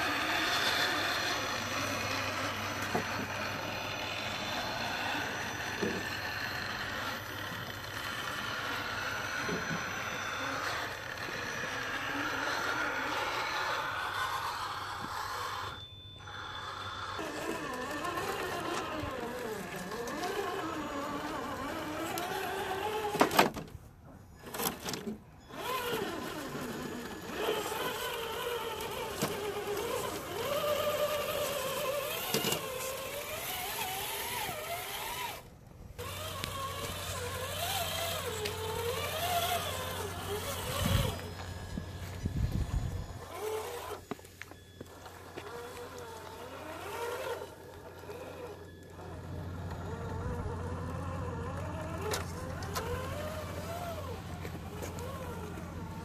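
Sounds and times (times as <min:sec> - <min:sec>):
rc car motor and gear whine: 0:00.0 - 0:56.0.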